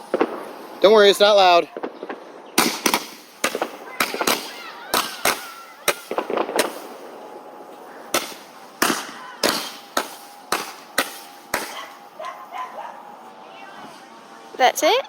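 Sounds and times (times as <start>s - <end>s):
firework sharp pops: 0.0s - 12.4s.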